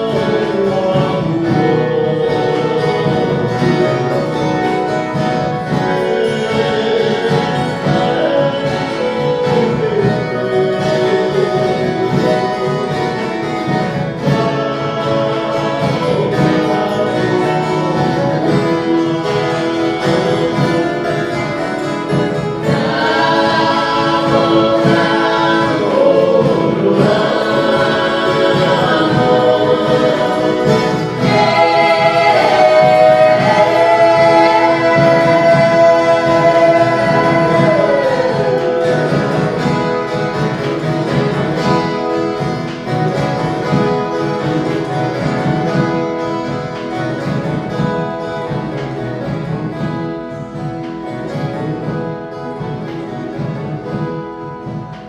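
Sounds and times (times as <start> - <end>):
group of voices singing: 0.0 - 55.0
plucked strings ensemble: 0.0 - 55.0.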